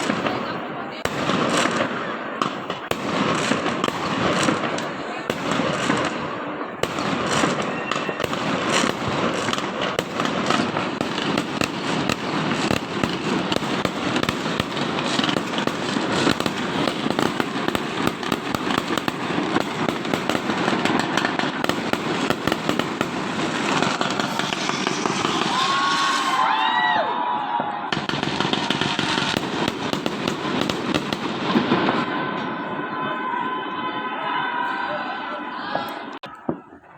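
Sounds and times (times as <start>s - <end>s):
fireworks crackling and banging: 0.0s - 36.9s.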